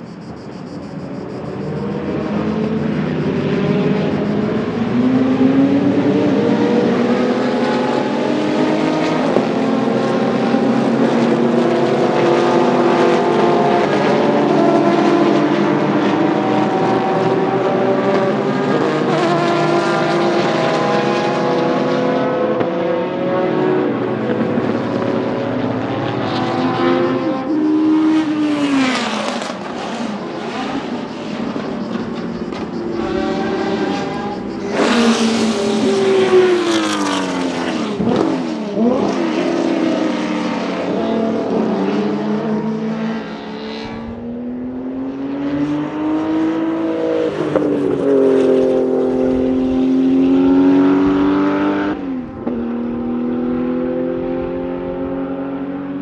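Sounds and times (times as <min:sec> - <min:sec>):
racing cars passing at full throttle: 0:00.0 - 0:56.0.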